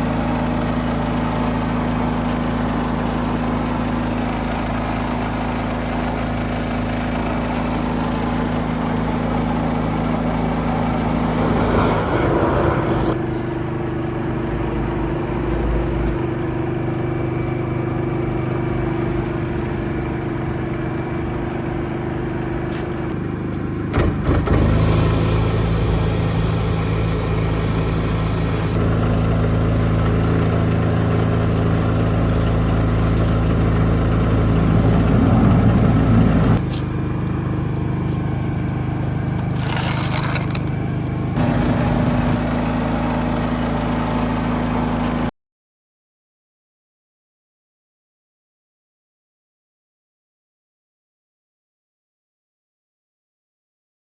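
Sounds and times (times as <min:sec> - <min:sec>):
machine engine running: 0:00.0 - 0:45.3.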